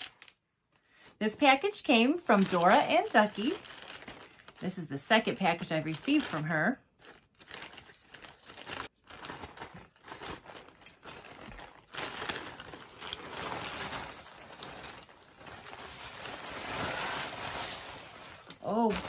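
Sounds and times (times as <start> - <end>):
package wrapping rustling: 0.0 - 0.4, 2.3 - 4.6, 5.6 - 19.0.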